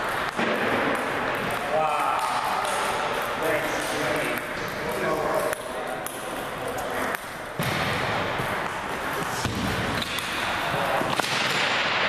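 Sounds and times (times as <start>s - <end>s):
hall background noise: 0.0s - 12.0s
table tennis ball on paddles: 0.0s - 12.0s.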